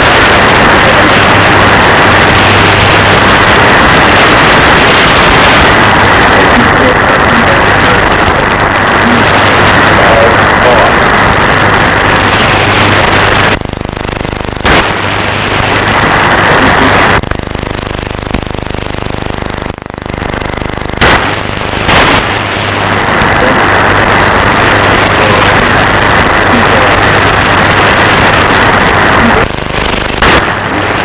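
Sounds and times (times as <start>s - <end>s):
loud buzzing radio static: 0.0s - 31.0s.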